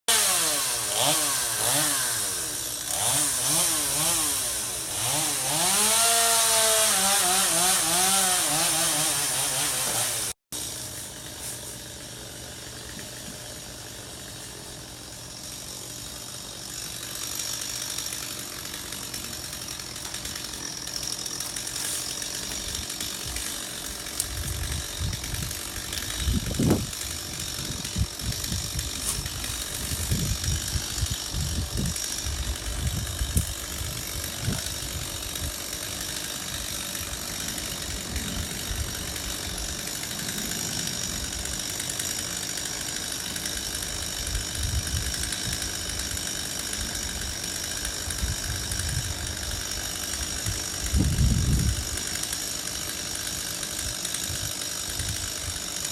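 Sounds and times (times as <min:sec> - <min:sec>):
tree-trimming equipment running: 0:00.1 - 0:55.9.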